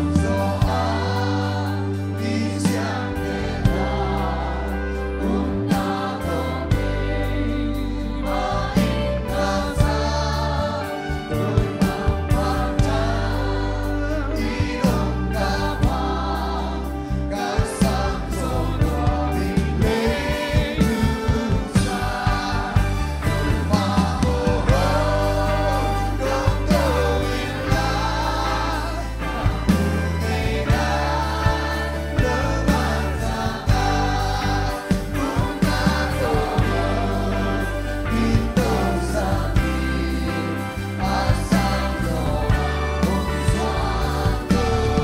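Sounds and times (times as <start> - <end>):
band and congregation singing hymn: 0.0 - 45.0
drums keeping a beat: 0.0 - 45.0
lead singer: 0.0 - 45.0.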